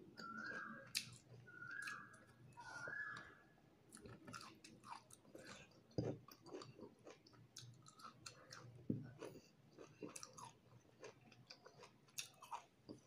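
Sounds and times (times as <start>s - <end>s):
person chewing food: 0.1s - 3.3s, 3.9s - 13.0s.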